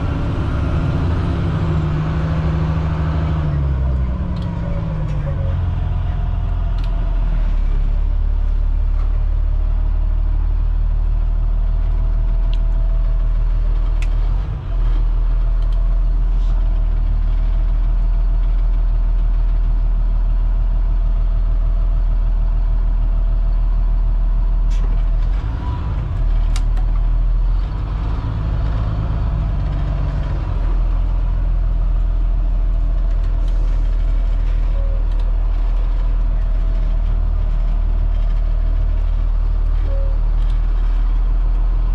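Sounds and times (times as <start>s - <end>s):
diesel bus engine rumbling: 0.0s - 41.9s.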